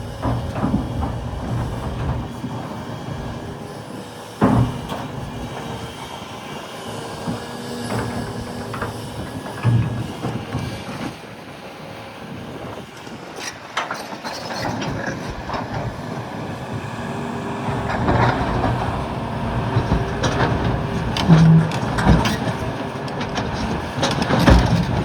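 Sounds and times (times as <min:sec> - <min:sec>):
excavator running under load: 0:00.0 - 0:25.0.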